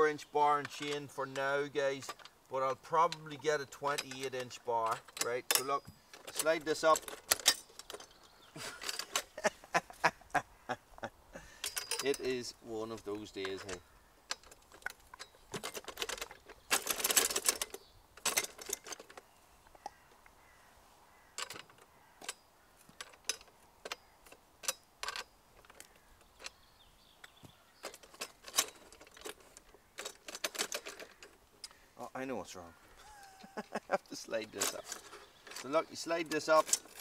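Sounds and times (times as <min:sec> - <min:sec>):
metal frame clicking and rattling: 0:00.0 - 0:09.8, 0:11.4 - 0:20.0, 0:21.3 - 0:31.8, 0:32.9 - 0:37.0.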